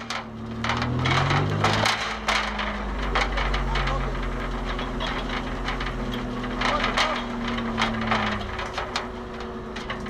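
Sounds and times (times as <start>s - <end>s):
sharp clacks and knocks: 0.0s - 10.0s
vehicle engine humming: 0.0s - 10.0s.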